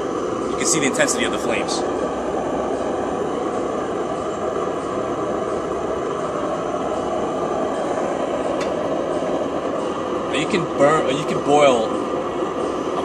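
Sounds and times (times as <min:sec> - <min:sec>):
stove burner flame rushing: 0:00.0 - 0:13.0.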